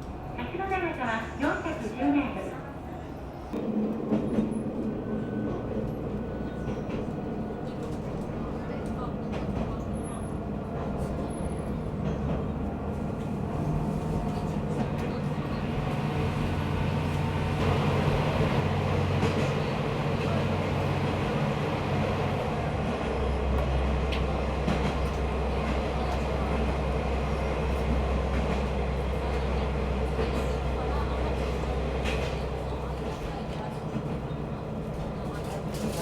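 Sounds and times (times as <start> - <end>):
diesel railcar engine and rail rumble: 0.0 - 36.0.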